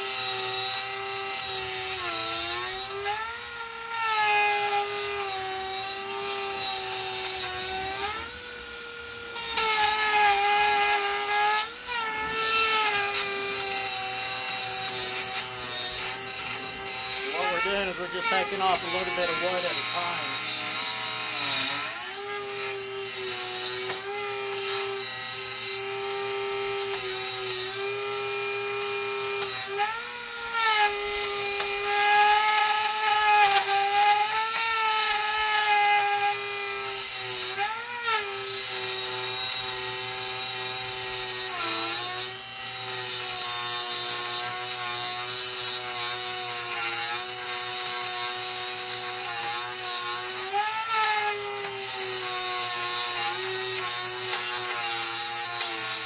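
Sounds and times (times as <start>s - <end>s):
rotary tool whining: 0.0s - 56.0s.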